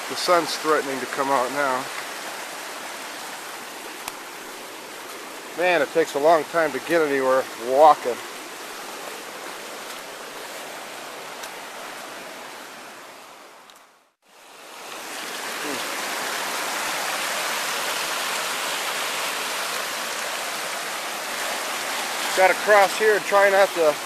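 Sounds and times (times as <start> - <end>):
stream rushing over its bed: 0.0 - 24.0.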